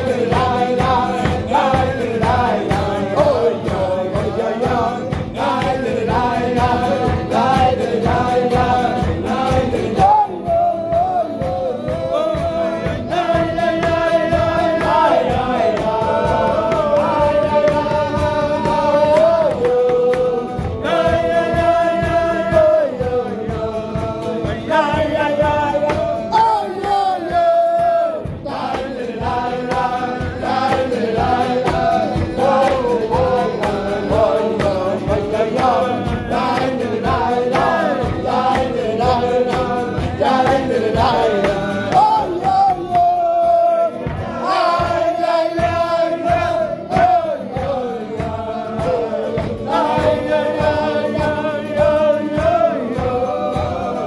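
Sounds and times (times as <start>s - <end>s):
men singing together: 0.0s - 54.0s
steady accompanying beat: 0.0s - 54.0s.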